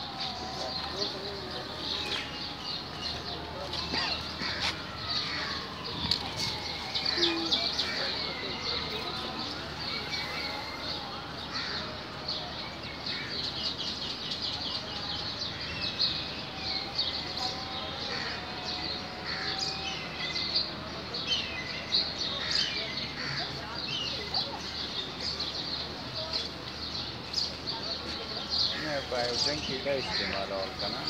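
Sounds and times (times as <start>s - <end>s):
many birds chirping: 0.0s - 31.0s.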